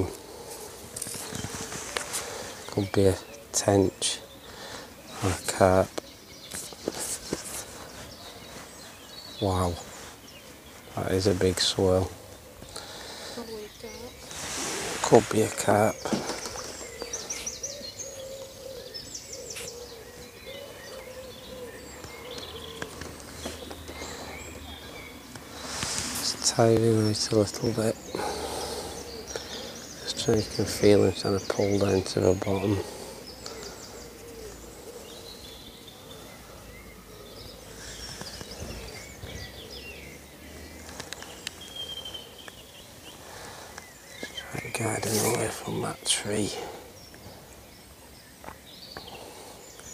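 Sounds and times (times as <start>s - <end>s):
bird chirps and trills: 0.0s - 49.9s.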